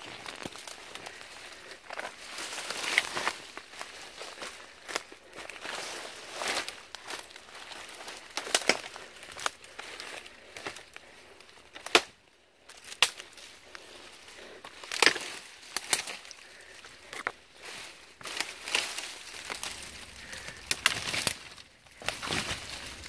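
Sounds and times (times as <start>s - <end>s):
footsteps on dry leaves: 0.0s - 12.0s, 12.6s - 23.0s.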